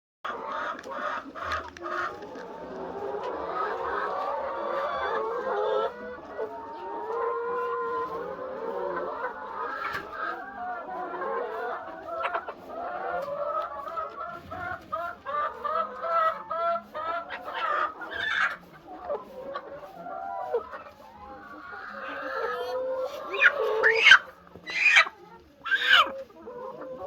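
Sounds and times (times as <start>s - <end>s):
hens clucking: 0.3s - 27.0s.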